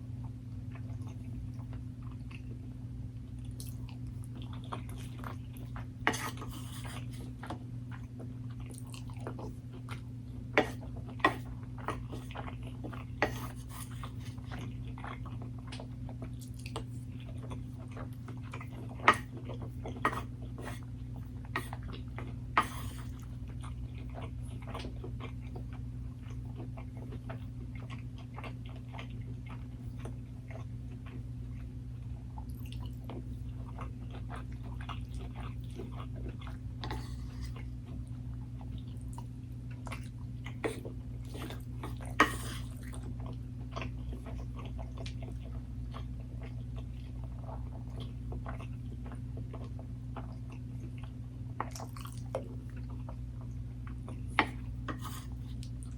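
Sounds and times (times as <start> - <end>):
chewing and biting food: 0.2 - 2.6, 3.3 - 55.9.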